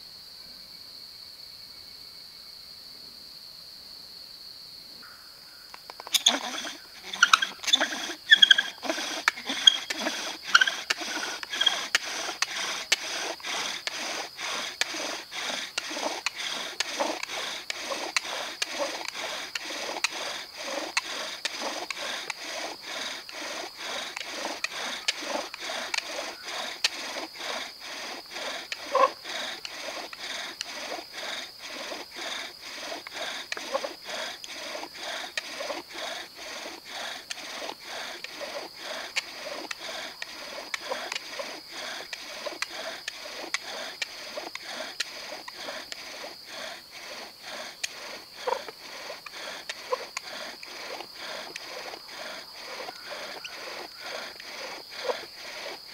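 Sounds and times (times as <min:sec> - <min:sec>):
wooden spindle rasping in fireboard: 0:05.8 - 0:55.9.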